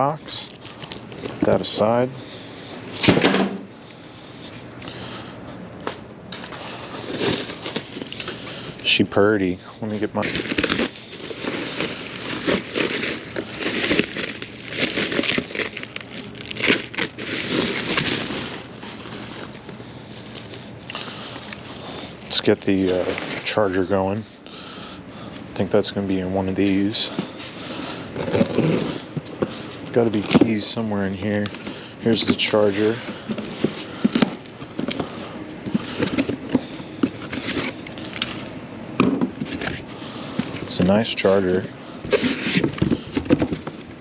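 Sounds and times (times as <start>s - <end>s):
packaging crinkling and rustling: 0.0s - 2.1s, 5.8s - 9.2s, 9.9s - 23.7s, 26.6s - 38.5s, 39.3s - 44.0s.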